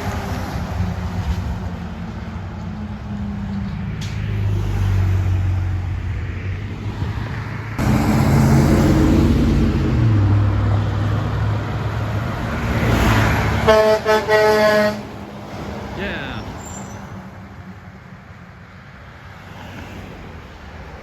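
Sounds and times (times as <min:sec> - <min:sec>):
truck engines passing: 0:00.0 - 0:21.0.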